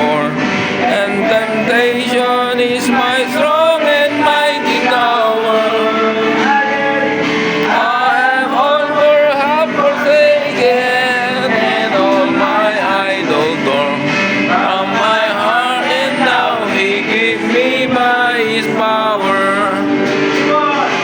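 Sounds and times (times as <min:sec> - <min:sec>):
voices singing a hymn: 0:00.0 - 0:21.0.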